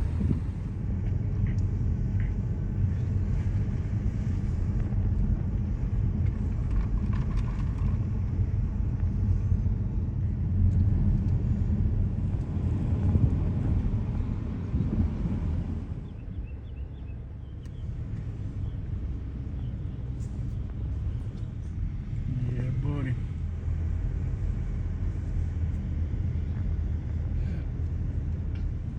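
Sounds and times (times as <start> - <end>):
vehicle rumble on rough road: 0.0 - 28.9.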